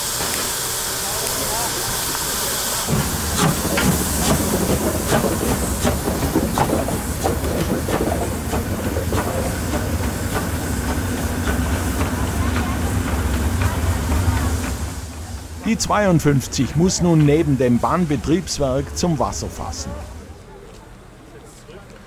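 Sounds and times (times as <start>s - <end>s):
steam hissing from locomotive: 0.0s - 20.4s
low rumble of moving locomotive: 0.0s - 22.0s.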